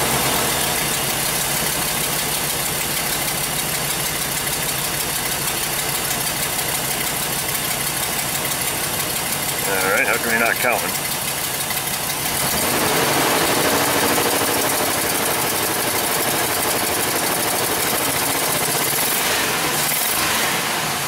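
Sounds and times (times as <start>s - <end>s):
engine idling with misfire: 0.0s - 21.0s.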